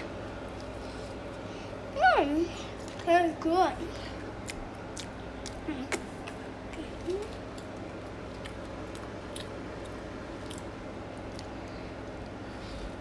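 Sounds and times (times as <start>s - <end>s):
child chewing food: 0.0s - 1.8s, 2.4s - 13.0s
low room hum: 0.0s - 13.0s.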